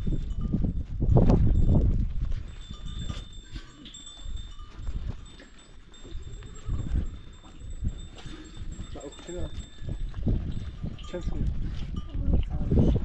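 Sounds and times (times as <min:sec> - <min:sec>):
livestock bells ringing: 0:00.0 - 0:12.8.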